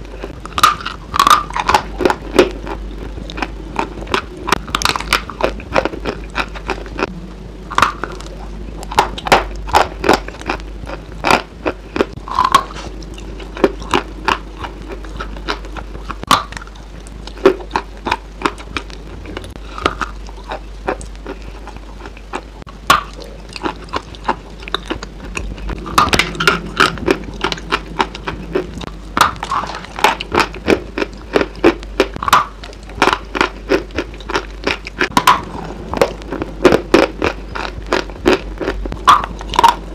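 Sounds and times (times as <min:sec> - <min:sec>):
biting and chewing crunchy food: 0:00.0 - 0:39.9
faint low hum: 0:00.0 - 0:39.9.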